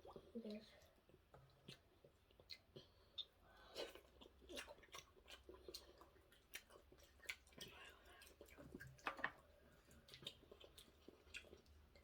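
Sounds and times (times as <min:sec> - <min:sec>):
person eating soup: 0:00.0 - 0:12.0.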